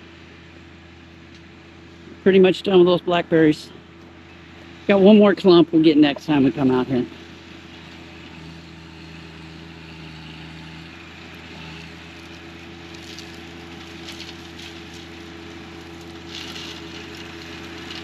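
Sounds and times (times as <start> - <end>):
flail mower cutting grass: 0.0 - 18.0
tractor diesel engine under load: 0.0 - 18.0.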